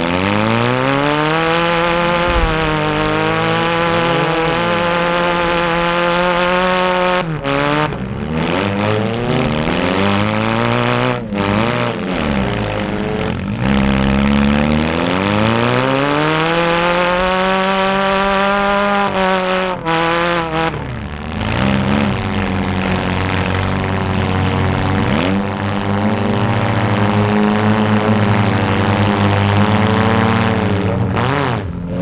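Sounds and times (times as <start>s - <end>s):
car engines revving hard: 0.0s - 32.0s.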